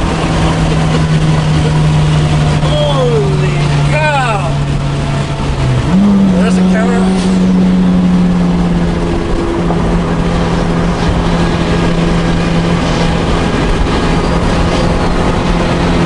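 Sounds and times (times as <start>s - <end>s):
car engine cruising: 0.0s - 16.0s
road noise: 0.0s - 16.0s.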